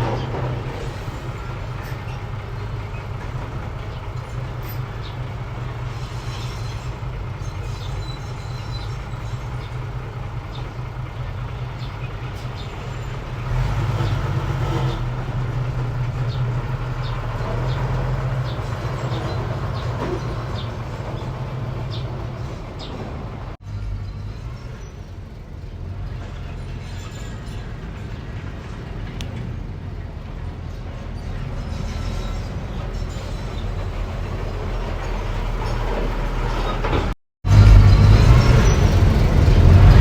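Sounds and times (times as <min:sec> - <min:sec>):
bulldozer engine running: 0:00.0 - 0:40.0.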